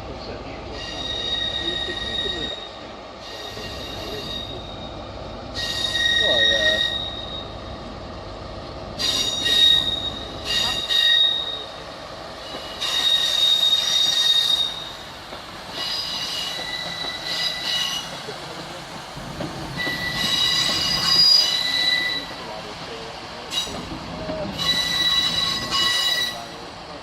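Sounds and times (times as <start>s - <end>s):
low train rumble: 0.0s - 27.0s
train wheels squealing on rails: 0.6s - 7.8s, 8.9s - 22.9s, 23.5s - 26.9s.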